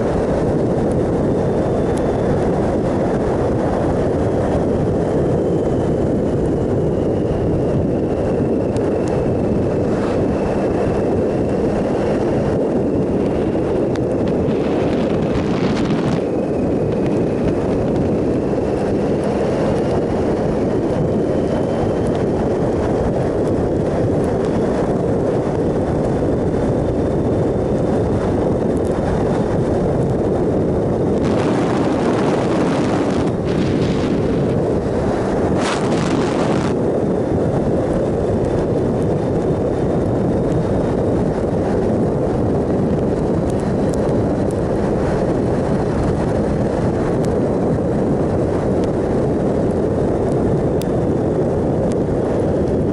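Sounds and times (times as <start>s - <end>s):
motorcycle engine cruising: 0.0s - 52.9s
wind over microphone: 0.0s - 52.9s.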